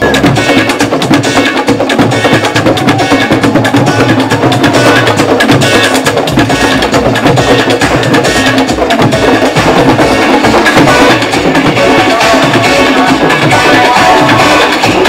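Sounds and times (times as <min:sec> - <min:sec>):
drum group playing fast rhythm: 0:00.0 - 0:15.0.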